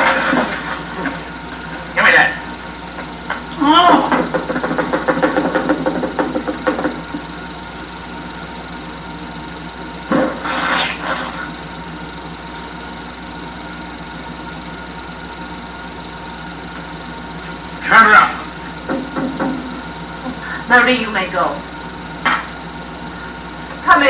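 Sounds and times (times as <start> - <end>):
film projector whirring: 0.0 - 24.0
soundtrack hum: 0.0 - 24.0.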